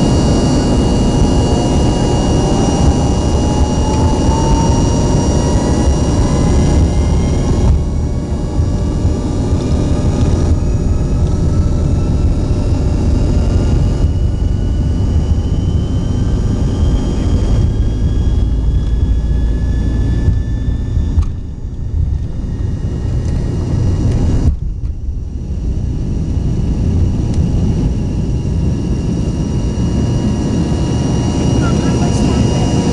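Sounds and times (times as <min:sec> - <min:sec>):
jet engines rumbling: 0:00.0 - 0:32.9
turbine whine rising: 0:00.0 - 0:32.9.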